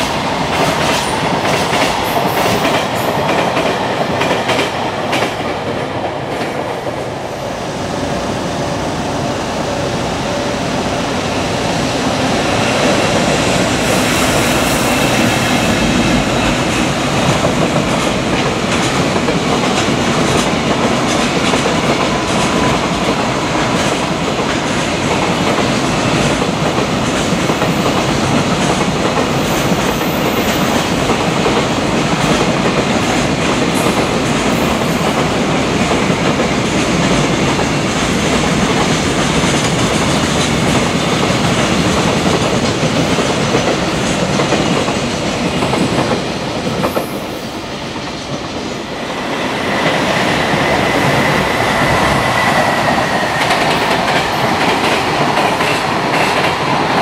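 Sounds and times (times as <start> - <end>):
high train whine: 0.0 - 57.0
freight train wheels clattering: 11.3 - 57.0.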